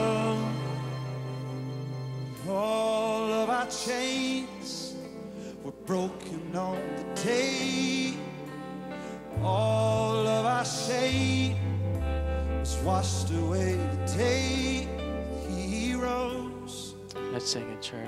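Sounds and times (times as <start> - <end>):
person singing: 0.0 - 18.0
worship band held chords: 0.0 - 18.0.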